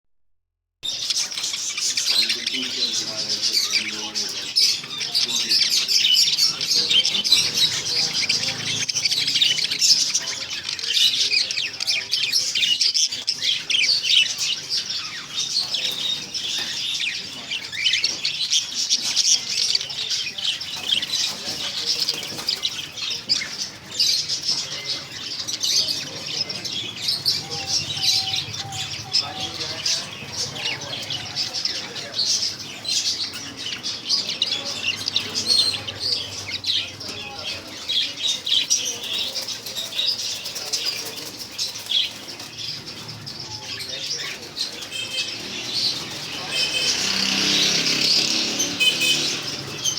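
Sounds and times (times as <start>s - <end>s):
budgerigars chattering: 0.8s - 49.9s.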